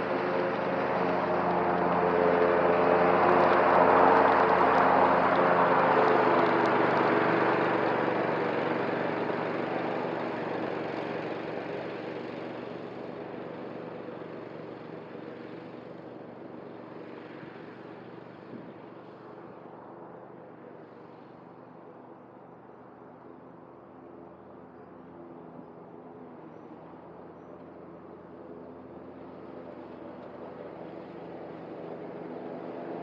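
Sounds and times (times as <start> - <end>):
riding mower running: 0.0 - 33.0.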